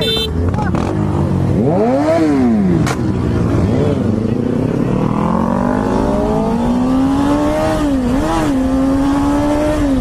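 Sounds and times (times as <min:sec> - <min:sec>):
motorcycle engine accelerating: 0:00.4 - 0:10.0.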